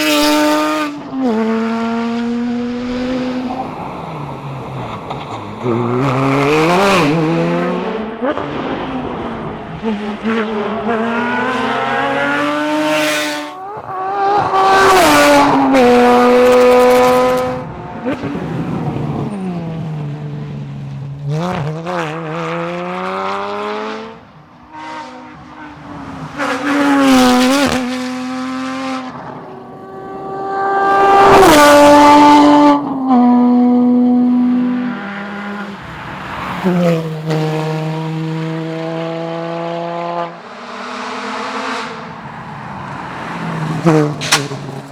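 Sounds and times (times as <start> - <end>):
sports car engine revving: 0.0 - 29.1, 30.9 - 44.9.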